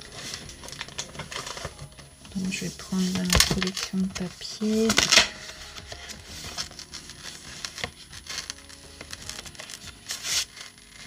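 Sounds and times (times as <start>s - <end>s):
paper sheets rustling: 0.0s - 11.0s
soft background music: 0.0s - 11.0s.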